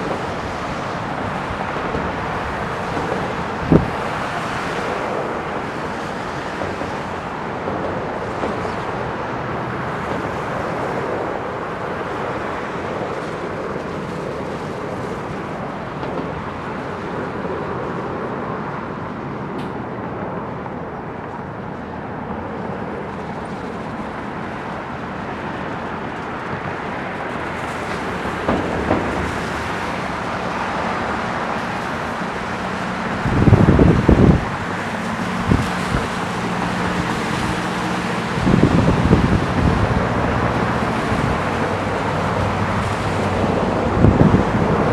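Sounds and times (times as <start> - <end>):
distant vehicle noise: 0.0 - 44.9
wind rumble: 0.0 - 44.9.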